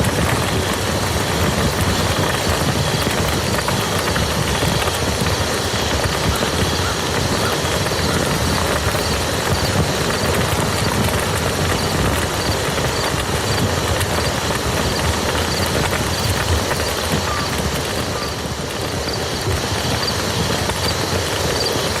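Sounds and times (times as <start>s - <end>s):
rain falling on a field: 0.0s - 22.0s.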